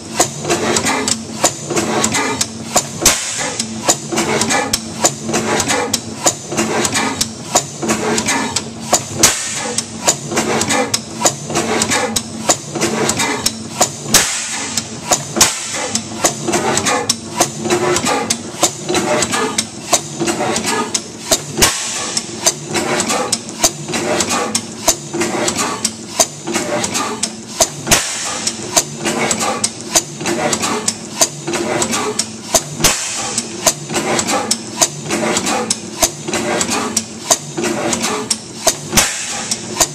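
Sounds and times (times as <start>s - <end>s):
gas engine knocking and clicking: 0.0s - 39.9s.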